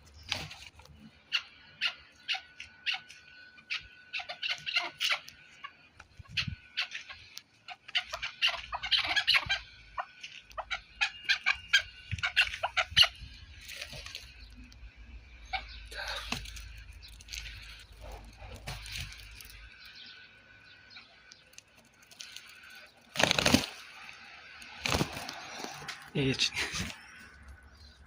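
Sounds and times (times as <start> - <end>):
partridges calling: 1.2 - 28.0.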